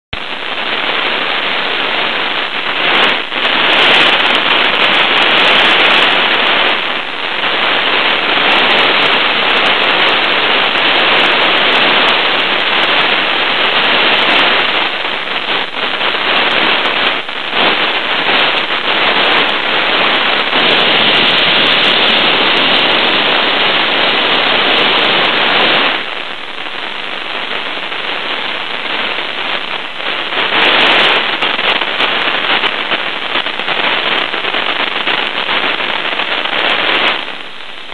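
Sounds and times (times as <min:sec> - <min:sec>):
jet engine roaring: 0:00.2 - 0:37.9.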